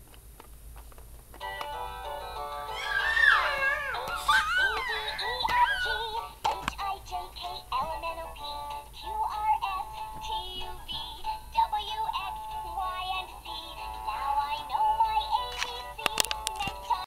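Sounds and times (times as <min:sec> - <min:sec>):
synthesized singing voice: 0:02.7 - 0:17.0.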